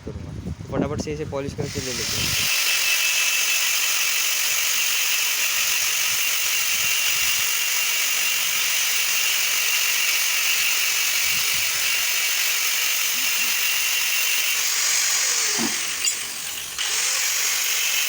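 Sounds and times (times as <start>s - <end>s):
grinder grinding brake shoes: 1.7s - 18.0s.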